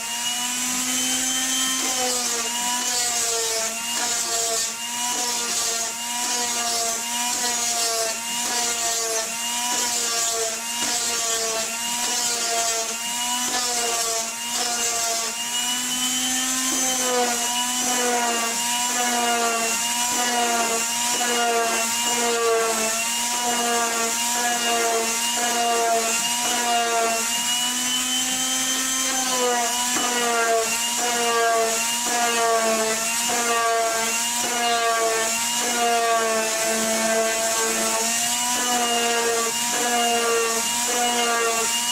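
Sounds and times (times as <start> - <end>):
electric power tool on wood: 0.0 - 41.9.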